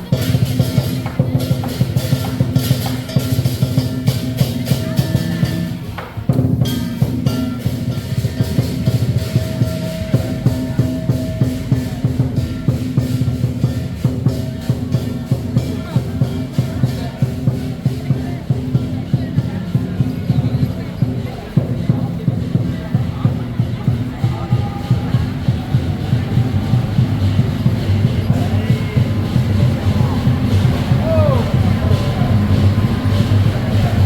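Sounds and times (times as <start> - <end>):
crashing cymbals: 0.0 - 34.0
large drum beating fast: 0.0 - 34.0.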